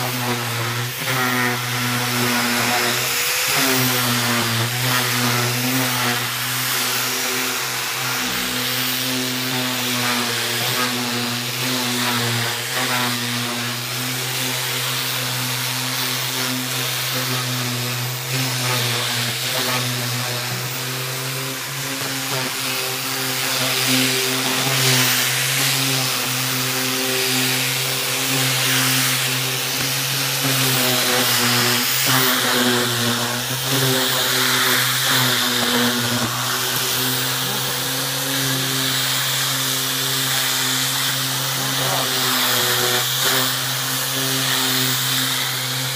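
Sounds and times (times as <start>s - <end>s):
electric sander motor: 0.0s - 45.9s.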